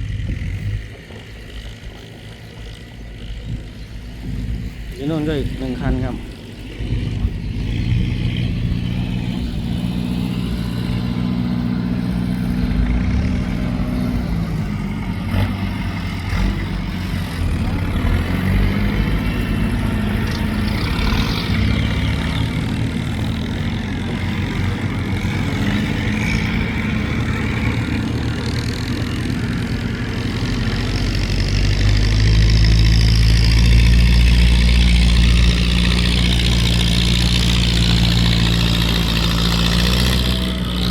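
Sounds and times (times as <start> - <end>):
tractor diesel engine under load: 0.0 - 40.9.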